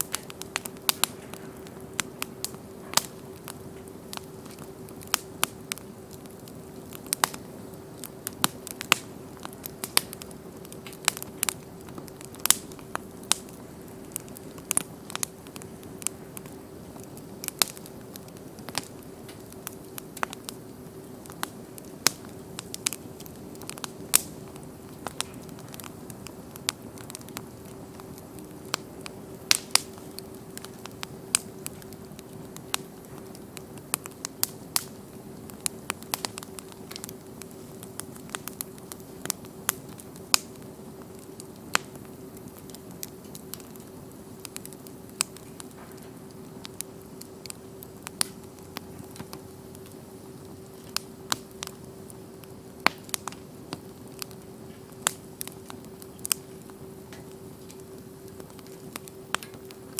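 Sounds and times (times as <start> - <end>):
bonfire crackling: 0.0 - 59.9
faint steady hum: 0.0 - 59.9.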